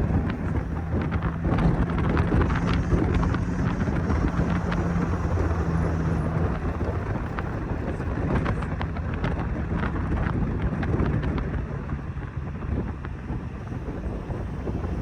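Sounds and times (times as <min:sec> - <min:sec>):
car engine hum: 0:00.0 - 0:15.0
road and wind noise: 0:00.0 - 0:15.0.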